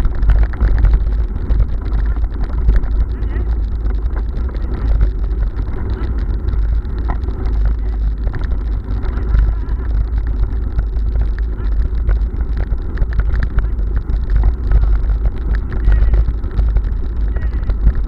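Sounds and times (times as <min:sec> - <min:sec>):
bicycle rattling over cobblestones: 0:00.0 - 0:18.0
wind rumble on microphone: 0:00.0 - 0:18.0.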